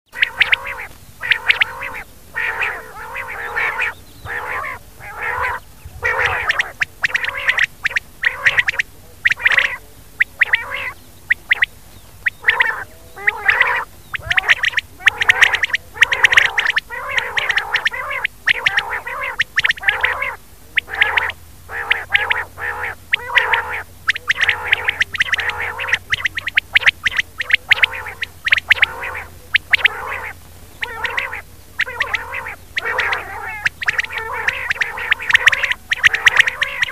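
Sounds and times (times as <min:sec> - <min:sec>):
quail calling: 0:00.1 - 0:36.9.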